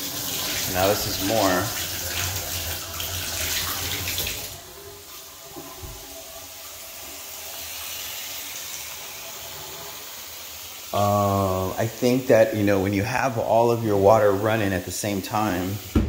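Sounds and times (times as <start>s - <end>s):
sink faucet stream into basin: 0.0s - 16.0s.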